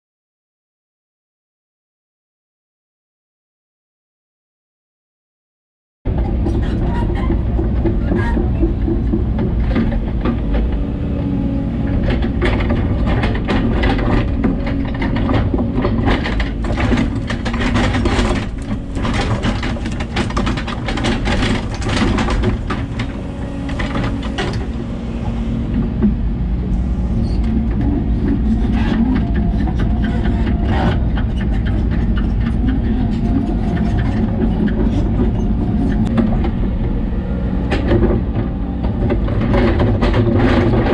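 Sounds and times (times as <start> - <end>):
excavator diesel engine under load: 6.1 - 40.9
hydraulics working: 6.1 - 40.9.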